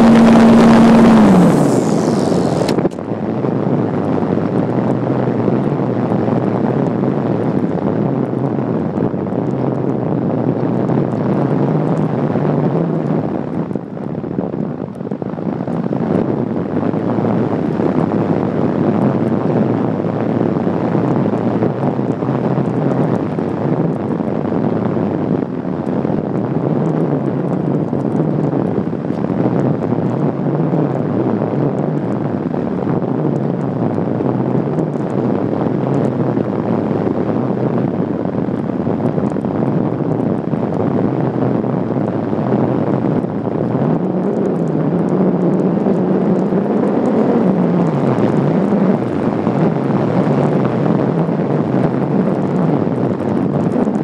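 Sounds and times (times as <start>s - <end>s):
loud airflow over microphone: 0.0s - 54.0s.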